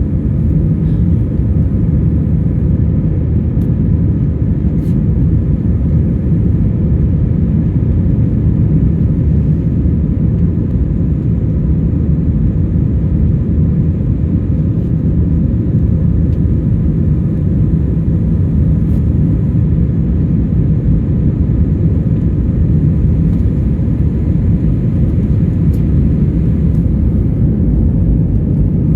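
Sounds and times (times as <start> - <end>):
faint steady whine: 0.0 - 28.9
jet engines rumbling: 0.0 - 28.9.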